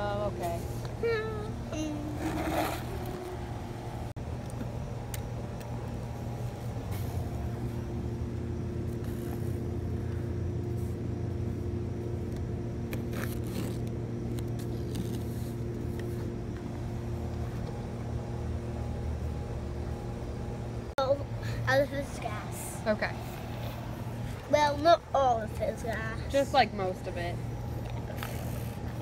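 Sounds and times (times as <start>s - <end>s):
low engine-like hum: 0.0s - 29.0s.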